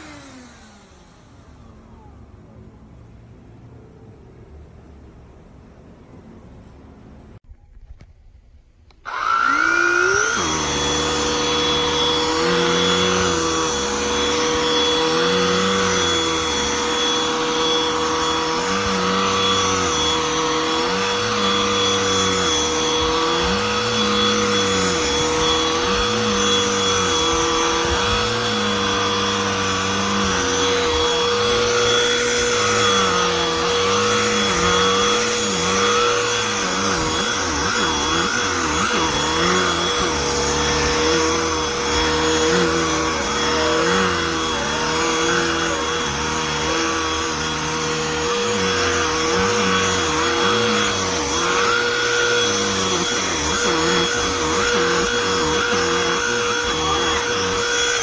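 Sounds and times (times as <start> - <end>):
handheld vacuum whining: 0.0 - 1.7, 8.8 - 58.0.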